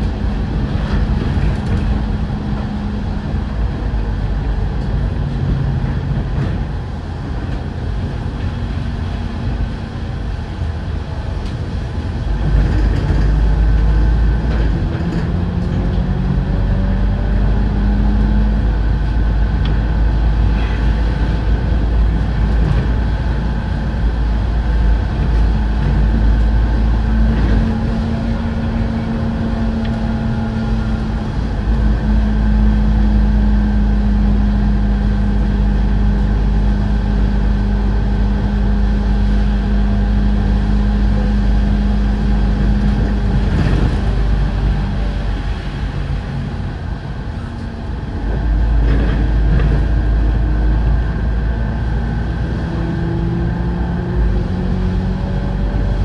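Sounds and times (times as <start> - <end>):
bus engine revving: 0.0 - 56.0
low road rumble: 0.0 - 56.0.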